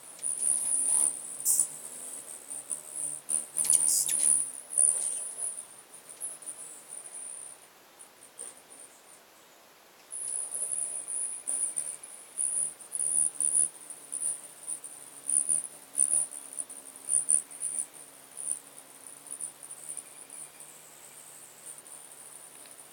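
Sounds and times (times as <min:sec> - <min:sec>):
hummingbird wings humming: 0:00.0 - 0:07.6, 0:10.1 - 0:22.9.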